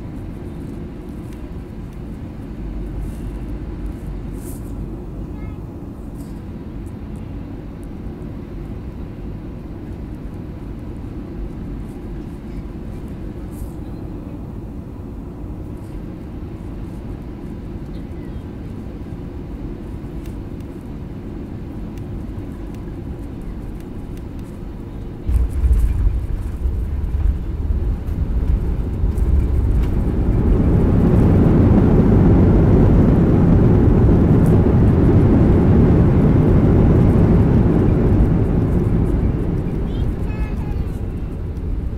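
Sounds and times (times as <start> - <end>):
aircraft cabin engine noise: 0.0 - 41.9.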